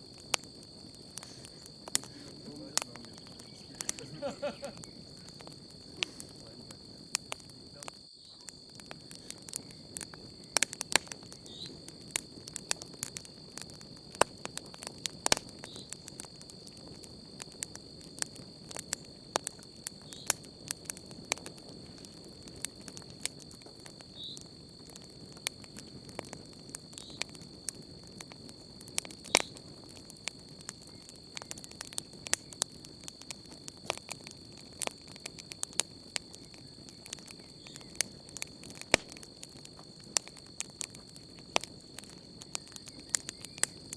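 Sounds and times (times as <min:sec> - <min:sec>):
campfire crackling and popping: 0:00.0 - 0:43.9
cricket trill: 0:00.0 - 0:43.9.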